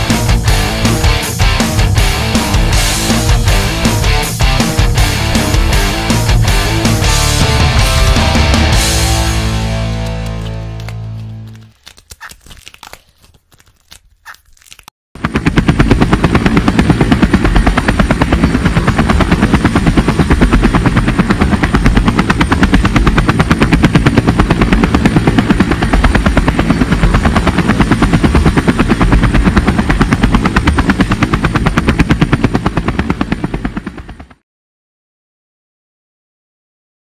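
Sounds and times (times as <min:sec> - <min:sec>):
helicopter rotor chopping: 0:00.0 - 0:12.3, 0:15.2 - 0:34.4.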